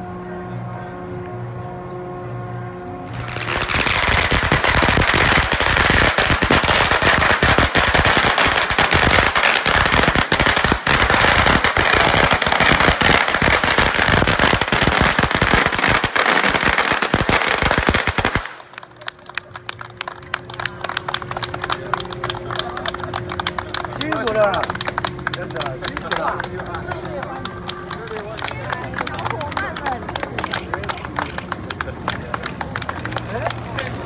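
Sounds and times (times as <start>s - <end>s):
firecrackers crackling: 3.1s - 34.0s.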